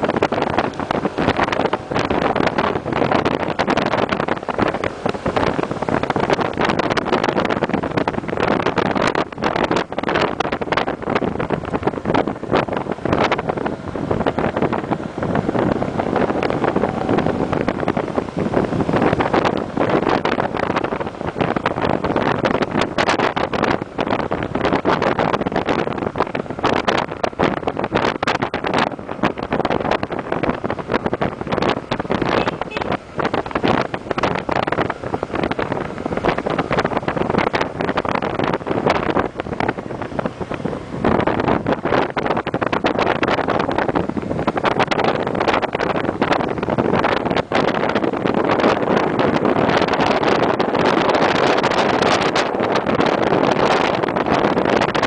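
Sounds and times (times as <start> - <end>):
motorcycle running: 0.0 - 55.0
wind buffeting microphone: 0.0 - 55.0.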